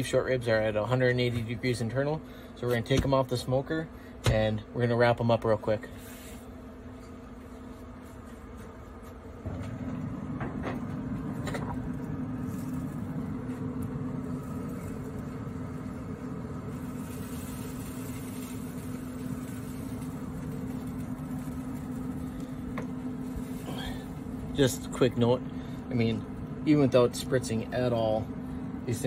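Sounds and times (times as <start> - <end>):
machine hum with rumble: 0.0 - 29.0.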